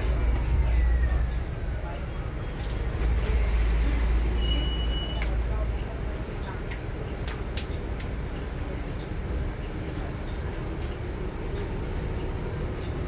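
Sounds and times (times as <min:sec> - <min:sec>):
bus cabin rumble: 0:00.0 - 0:13.0.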